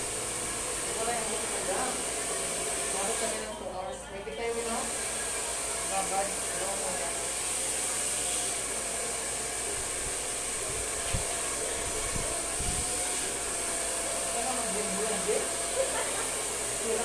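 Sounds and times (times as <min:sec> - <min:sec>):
hair dryer running: 0:00.0 - 0:03.6, 0:04.5 - 0:17.0.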